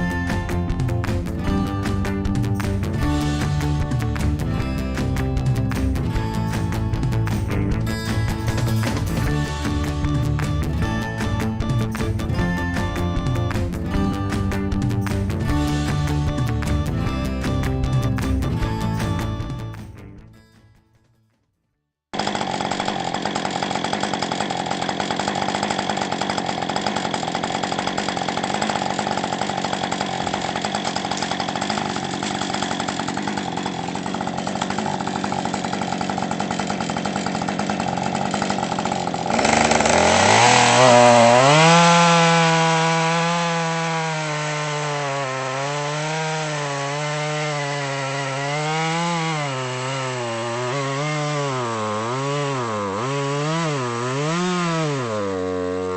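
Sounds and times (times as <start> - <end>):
chainsaw cutting logs: 0.0 - 20.5, 22.1 - 55.9.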